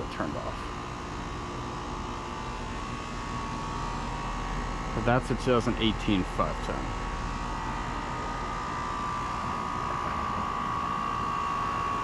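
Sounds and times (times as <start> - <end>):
air conditioner fan rushing: 0.0 - 12.0.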